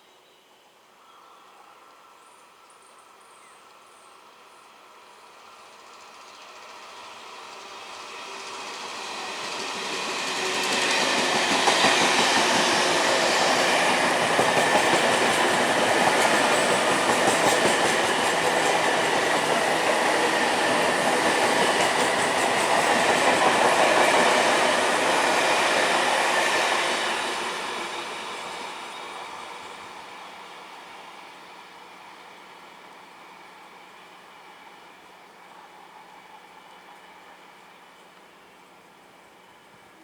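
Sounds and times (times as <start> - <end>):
train passing at speed: 3.8 - 40.0
train wheels on rails: 4.8 - 40.0.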